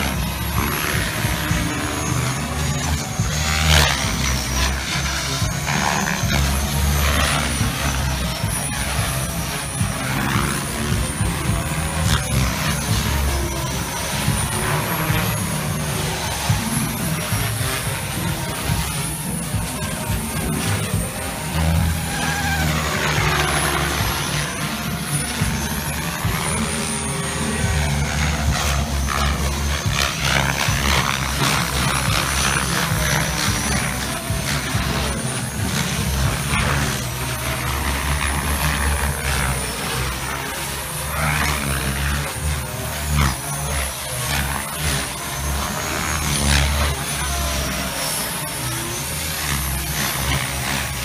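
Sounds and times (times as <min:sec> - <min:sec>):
high motor whine: 0:00.0 - 0:51.0
rc helicopter rotors buzzing: 0:00.0 - 0:51.0.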